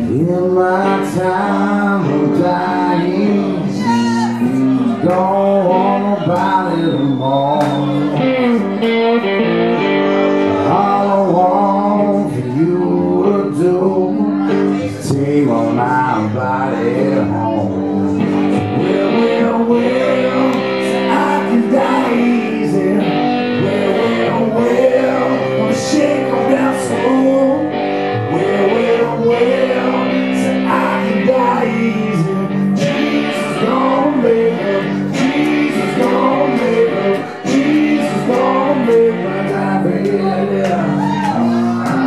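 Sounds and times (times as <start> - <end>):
electric guitar through amplifier: 0.0 - 42.0
man singing: 0.0 - 42.0.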